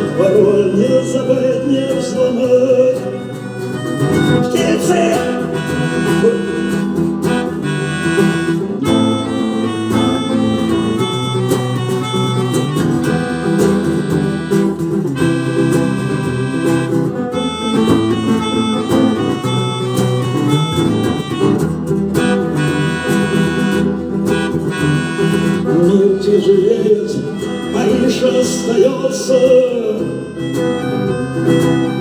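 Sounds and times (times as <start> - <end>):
guitars playing high notes: 0.0 - 32.0
live rock band playing: 0.0 - 32.0.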